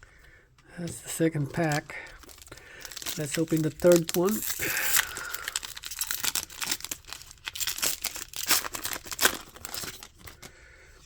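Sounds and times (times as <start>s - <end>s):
foil pack tearing and crinkling: 1.5s - 10.5s.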